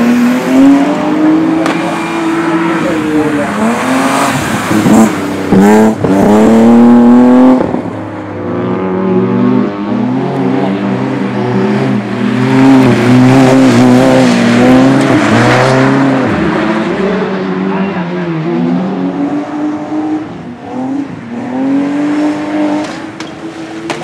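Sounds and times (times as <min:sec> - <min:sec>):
car engine revving with wavering pitch: 0:00.0 - 0:24.0
rally car engine revving: 0:00.0 - 0:24.0.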